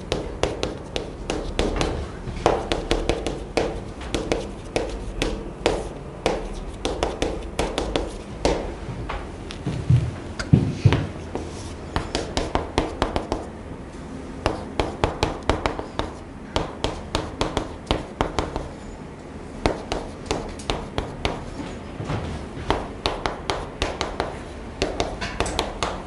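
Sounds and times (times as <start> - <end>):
chalk writing on chalkboard: 0.0 - 8.6, 10.9 - 13.5, 14.4 - 18.8, 19.6 - 21.7, 22.6 - 26.0.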